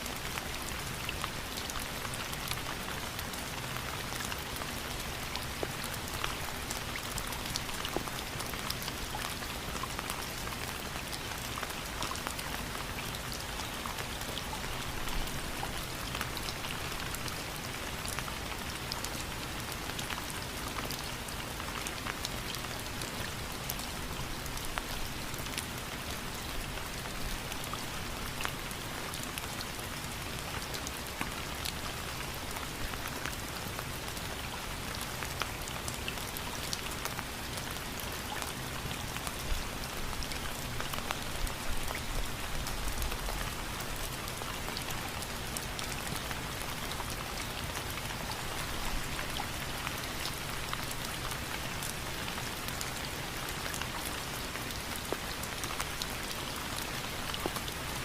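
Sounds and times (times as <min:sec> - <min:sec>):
raindrops ticking on a surface: 0:00.0 - 0:58.0
steady rain: 0:00.0 - 0:58.0.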